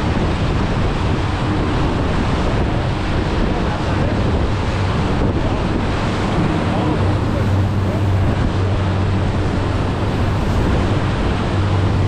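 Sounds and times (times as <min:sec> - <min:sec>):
boat engine droning: 0:00.0 - 0:12.0
water churning in boat wake: 0:00.0 - 0:12.0
wind on microphone: 0:00.0 - 0:12.0.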